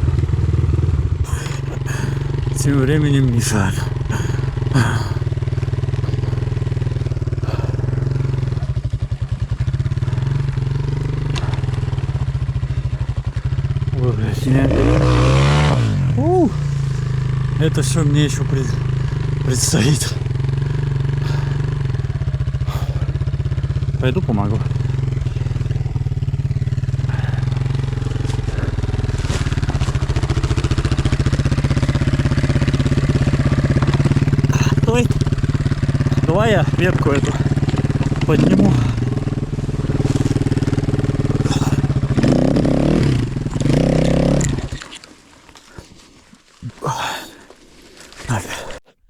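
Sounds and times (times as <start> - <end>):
motorcycle engine idling: 0.0 - 46.2.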